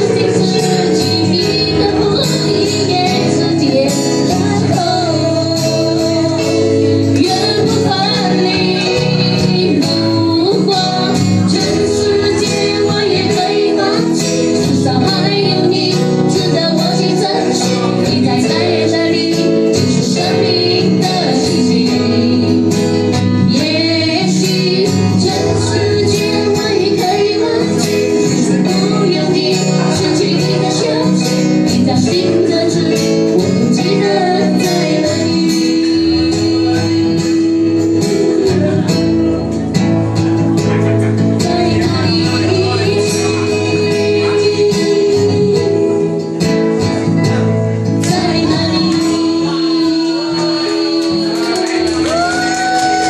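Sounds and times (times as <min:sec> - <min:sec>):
strummed acoustic guitar: 0:00.0 - 0:53.0
woman singing into a microphone: 0:00.0 - 0:53.0.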